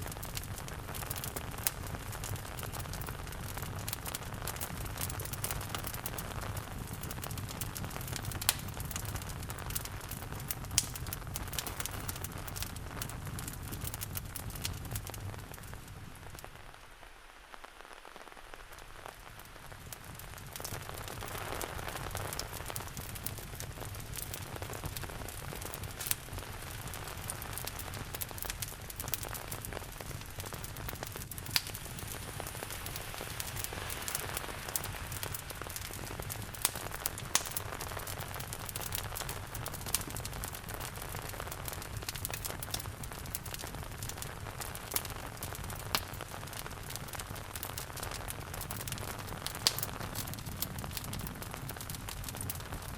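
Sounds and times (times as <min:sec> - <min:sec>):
steady rain: 0:00.0 - 0:52.9
wood fire crackling: 0:00.0 - 0:52.9.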